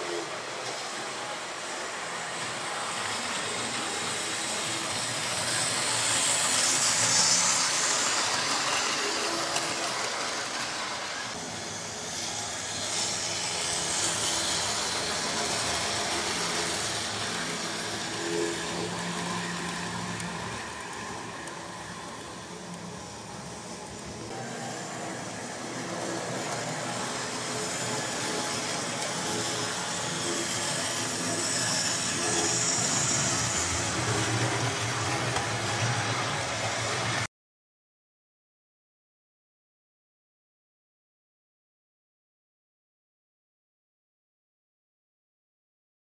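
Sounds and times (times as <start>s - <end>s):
model train motor whirring: 0.0s - 37.3s
wheels rumbling on rail: 0.0s - 37.3s.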